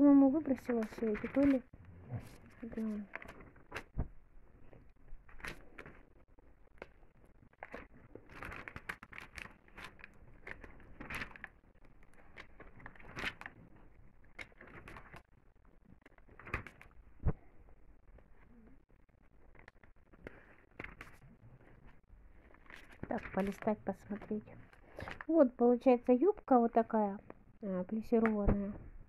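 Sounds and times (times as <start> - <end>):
magazine pages rustling: 0.3 - 25.6.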